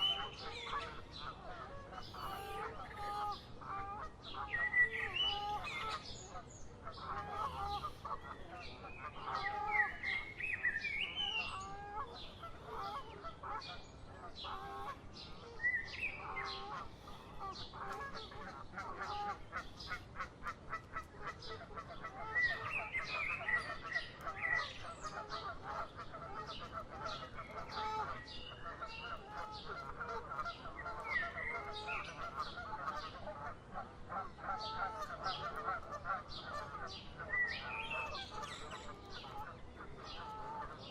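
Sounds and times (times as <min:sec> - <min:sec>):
birds calling: 0:00.0 - 0:40.9.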